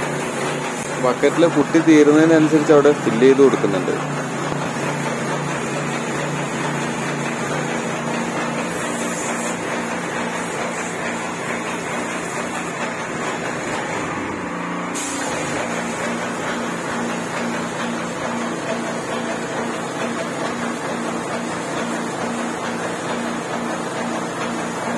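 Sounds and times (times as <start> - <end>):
spray machine humming and hissing: 0.0 - 24.9.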